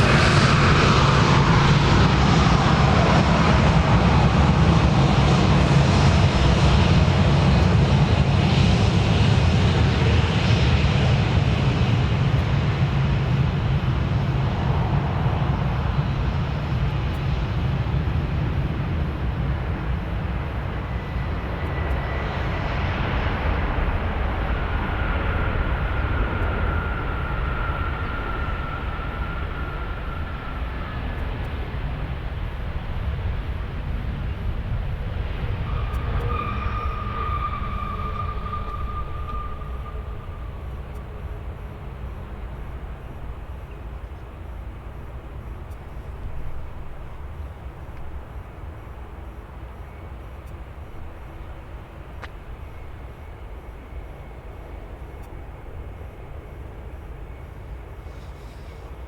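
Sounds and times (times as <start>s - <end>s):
aircraft engine noise: 0.0s - 59.0s
faint steady whine: 0.0s - 59.0s.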